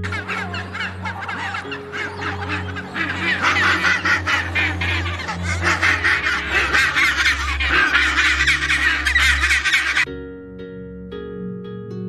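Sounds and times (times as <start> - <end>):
penguins honking: 0.0 - 10.1.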